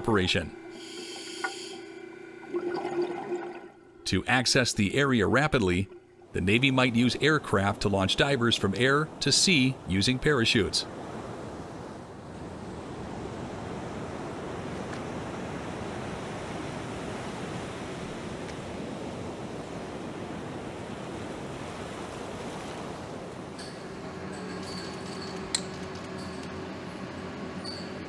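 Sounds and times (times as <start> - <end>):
sea noise: 0.0 - 28.0
wind: 4.9 - 28.0.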